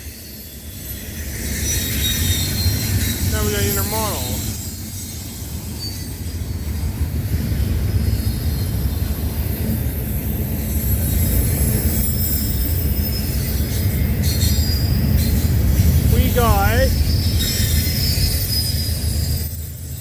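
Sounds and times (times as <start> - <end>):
steel wheels rumbling on rail: 0.0 - 20.0.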